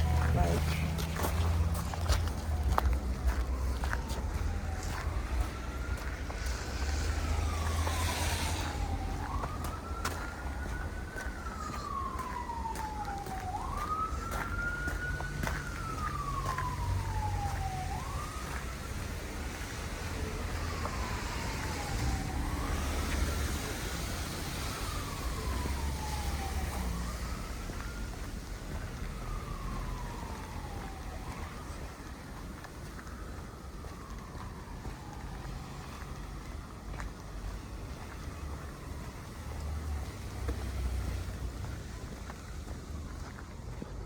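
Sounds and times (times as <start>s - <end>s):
emergency vehicle siren wailing: 0.0s - 44.0s.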